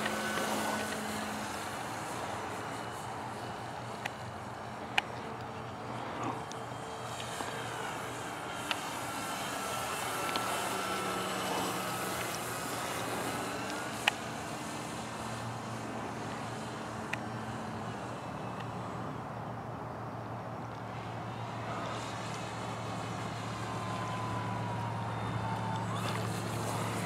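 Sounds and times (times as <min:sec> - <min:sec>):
model airplane motor whine: 0:00.0 - 0:19.7, 0:20.6 - 0:27.0.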